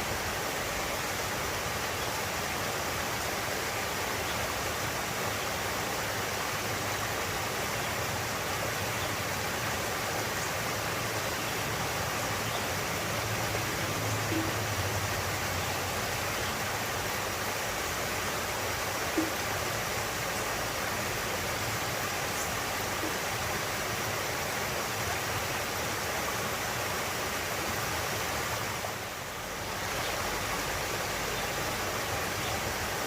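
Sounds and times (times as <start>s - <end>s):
stream flowing over rocks: 0.0s - 33.0s.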